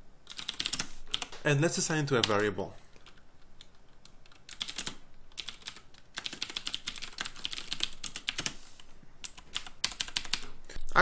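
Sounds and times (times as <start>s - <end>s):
computer keyboard typing: 0.2s - 10.6s.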